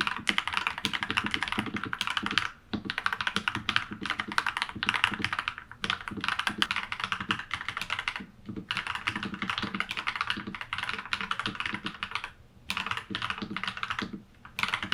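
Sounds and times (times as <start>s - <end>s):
mechanical keyboard typing: 0.0s - 14.9s.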